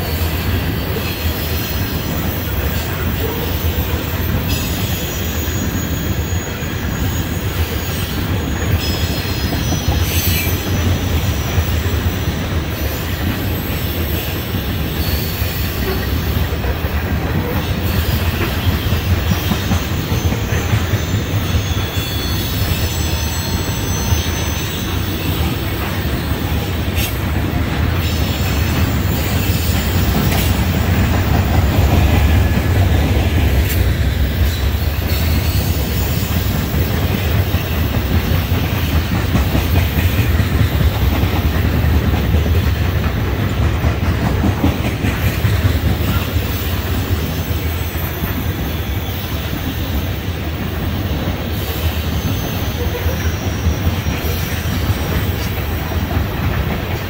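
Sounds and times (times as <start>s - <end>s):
high wheel squeal: 0.0s - 16.7s, 17.4s - 41.1s, 45.9s - 56.3s
train wheels rumbling on rail: 0.0s - 57.0s.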